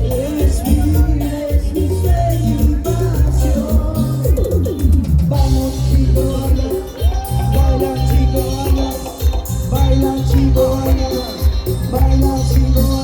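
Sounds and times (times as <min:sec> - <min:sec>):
live band playing latin dance music: 0:00.0 - 0:13.0.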